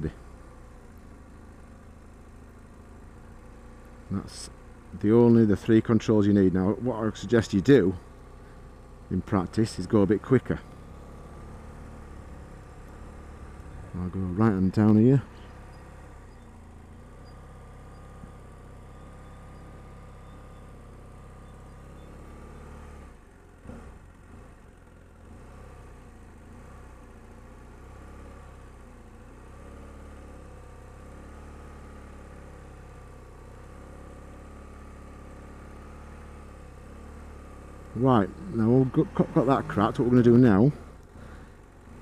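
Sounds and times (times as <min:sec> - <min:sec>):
motorcycle engine at low revs: 0:00.0 - 0:42.0.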